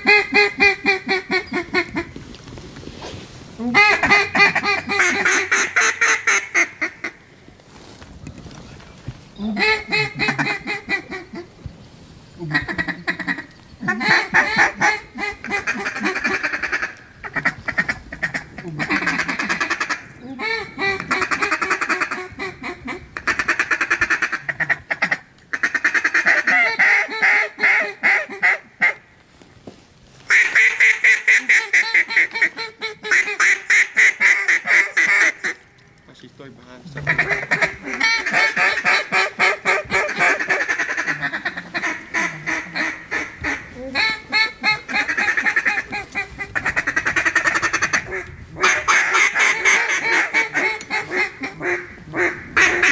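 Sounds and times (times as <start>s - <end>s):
duck calls quacking: 3.7s - 7.2s, 9.4s - 11.5s, 12.4s - 29.0s, 30.3s - 35.7s, 36.8s - 52.9s.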